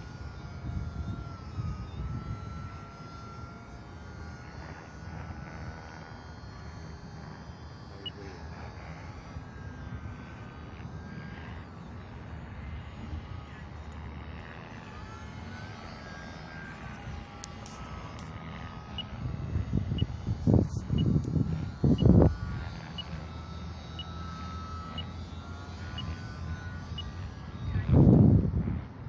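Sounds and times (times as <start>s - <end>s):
model plane motor whine: 0.0s - 29.0s.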